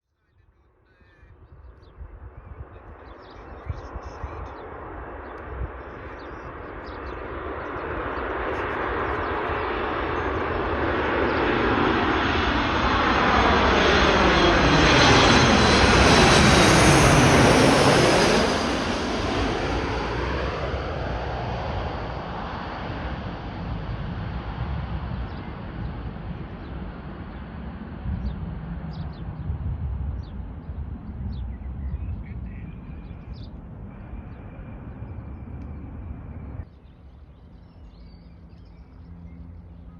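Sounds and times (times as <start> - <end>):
airliner passing overhead: 0.3 - 39.9.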